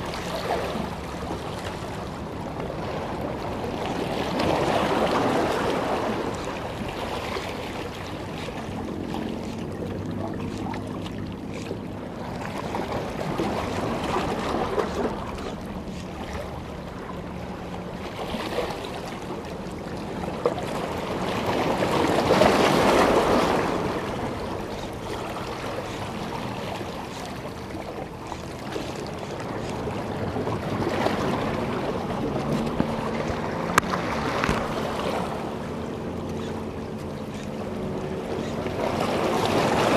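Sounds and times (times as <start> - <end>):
sea water washing against rocks: 0.0 - 39.9.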